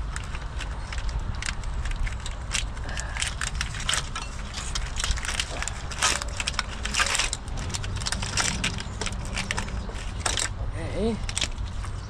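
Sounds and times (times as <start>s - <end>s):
plastic wiring harness crackling: 0.0s - 12.0s
steady low rumble: 0.0s - 12.0s.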